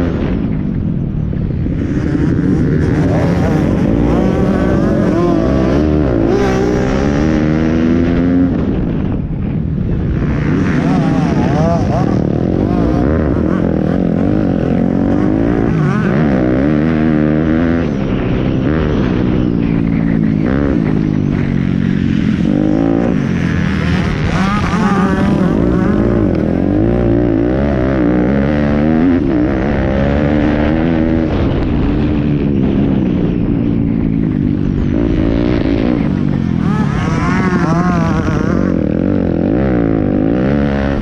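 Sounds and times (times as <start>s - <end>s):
pit bike engines revving: 0.0s - 41.0s.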